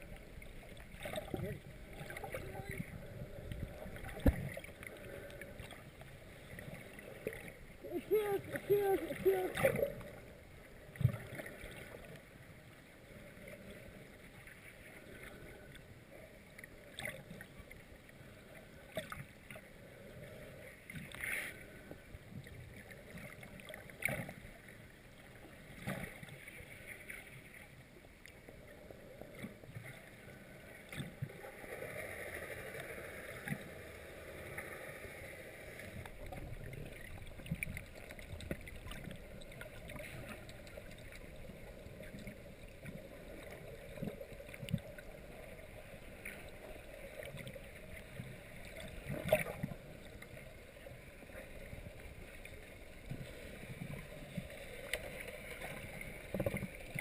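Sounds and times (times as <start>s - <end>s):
underwater water wash: 0.0s - 57.0s.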